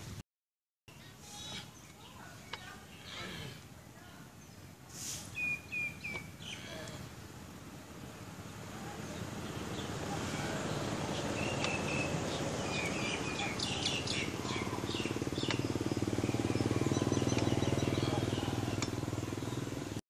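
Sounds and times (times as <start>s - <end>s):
outdoor background noise: 0.0s - 0.2s, 0.9s - 20.0s
birds chirping: 0.9s - 20.0s.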